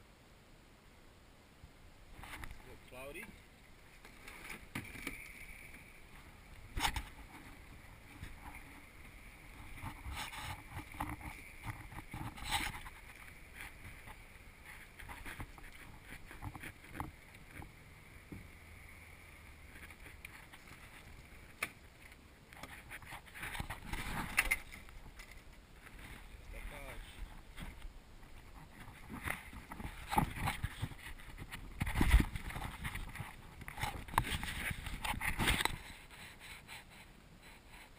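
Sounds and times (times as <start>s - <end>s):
faint steady hiss: 0.0s - 37.9s
kayak knocking and scraping: 2.1s - 37.9s.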